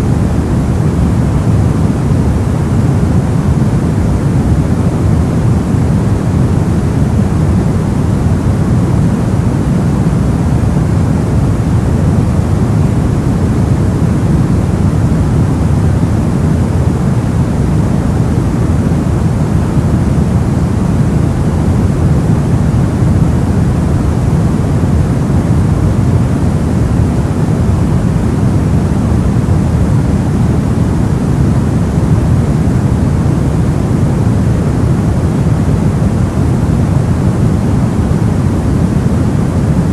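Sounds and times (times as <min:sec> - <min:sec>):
deep muffled white noise: 0:00.0 - 0:39.9.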